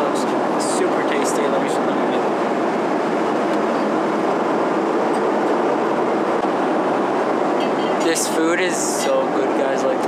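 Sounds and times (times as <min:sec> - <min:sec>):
airliner cabin noise: 0:00.0 - 0:10.0.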